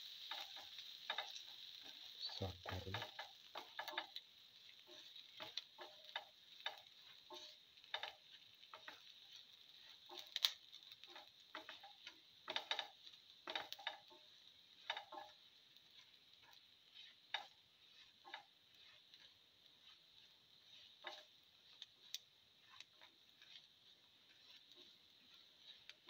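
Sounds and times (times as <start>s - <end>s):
food sizzling in oil: 0.0s - 26.0s
oil popping and ticking: 0.0s - 26.0s.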